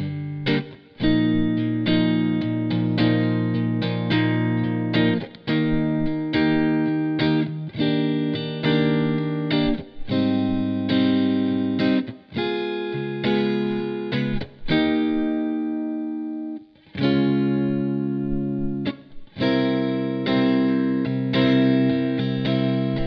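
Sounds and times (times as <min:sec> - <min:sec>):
electric guitar strumming chords: 0:00.0 - 0:23.0.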